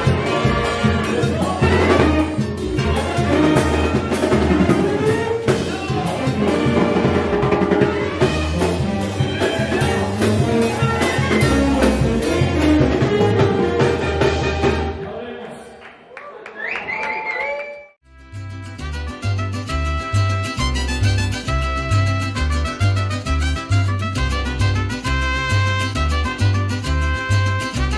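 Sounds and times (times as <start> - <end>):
brass band playing: 0.0 - 15.0, 18.1 - 27.9.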